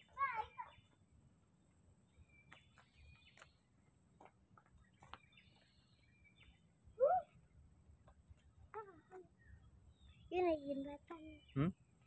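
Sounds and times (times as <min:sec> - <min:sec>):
faint bird chirps: 0:00.0 - 0:01.0, 0:02.0 - 0:04.0, 0:04.6 - 0:12.0.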